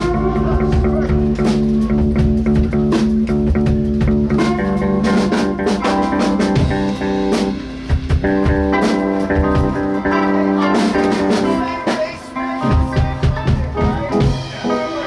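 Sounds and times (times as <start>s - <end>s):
bass notes: 0.0s - 11.8s, 12.6s - 15.0s
guitar: 0.0s - 15.0s
steady drum beat: 0.0s - 15.0s.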